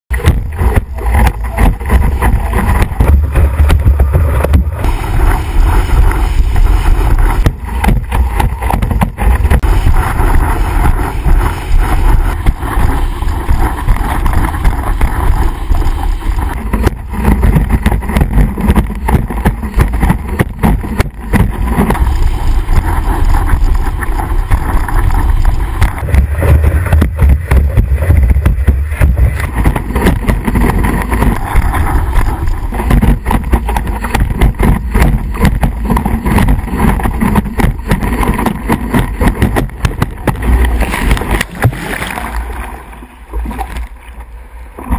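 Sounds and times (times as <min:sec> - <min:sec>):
wind blasting microphone: 0:00.1 - 0:43.8
board knocking on waves: 0:00.1 - 0:44.9
board rushing over water: 0:00.1 - 0:44.9.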